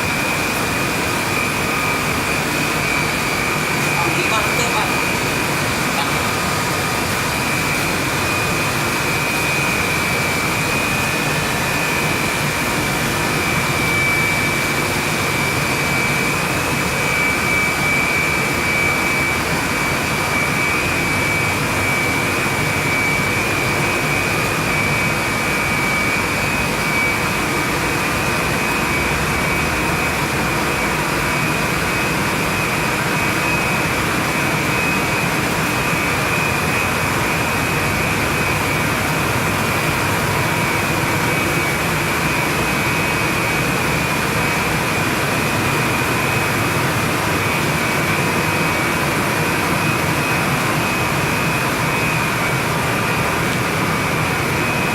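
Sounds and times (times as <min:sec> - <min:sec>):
high whine: 0:00.0 - 0:54.9
loud rush of blower fan: 0:00.0 - 0:54.9.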